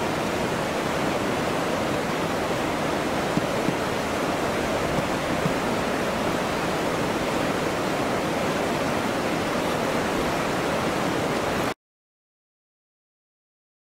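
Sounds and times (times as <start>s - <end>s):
river water rushing over rocks: 0.0s - 11.8s.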